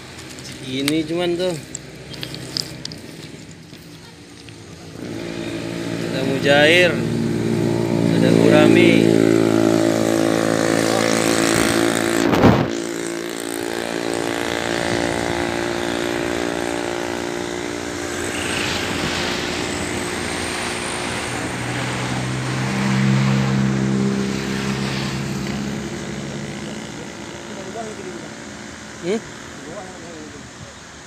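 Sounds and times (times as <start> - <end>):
vehicle engine passing: 0.0 - 30.6
steady traffic noise: 0.0 - 31.0.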